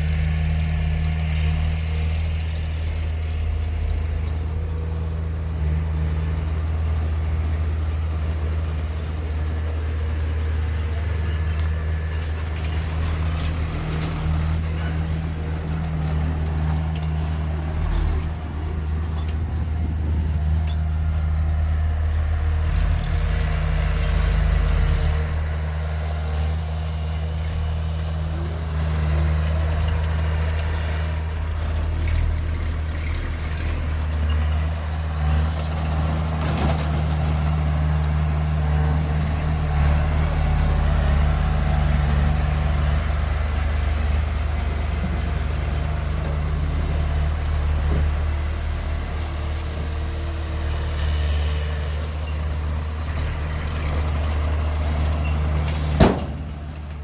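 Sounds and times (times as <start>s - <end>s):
bulldozer loading dump truck: 0.0s - 57.0s
diesel machinery engine drone: 0.0s - 57.0s.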